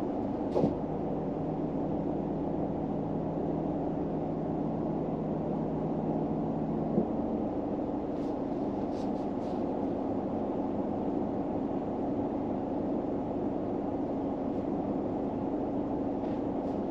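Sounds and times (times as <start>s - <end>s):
faint steady hum: 0.0s - 16.9s
low rumble inside car cabin: 0.0s - 16.9s.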